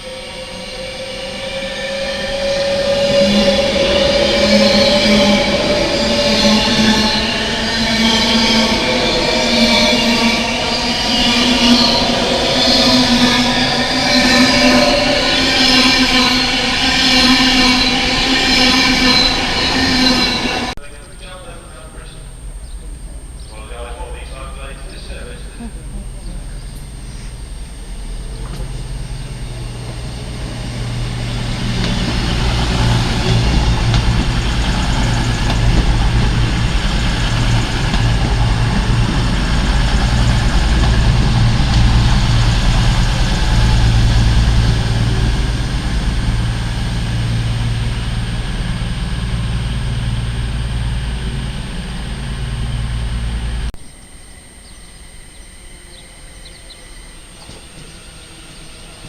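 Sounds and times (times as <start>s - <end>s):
train engine drone: 0.0s - 59.0s.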